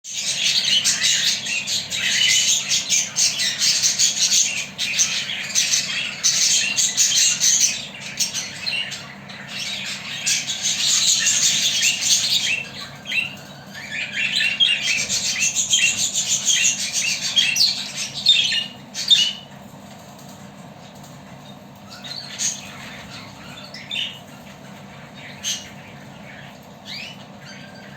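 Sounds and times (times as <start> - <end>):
budgerigars chattering: 0.1 - 19.6, 21.9 - 27.9.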